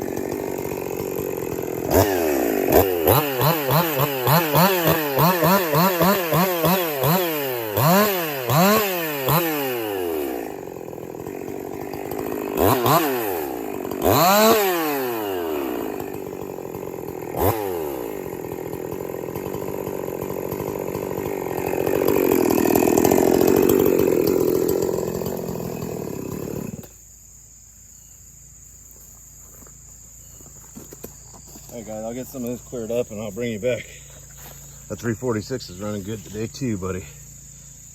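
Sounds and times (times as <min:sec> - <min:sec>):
chainsaw revving and idling: 0:00.0 - 0:27.2, 0:27.9 - 0:37.9.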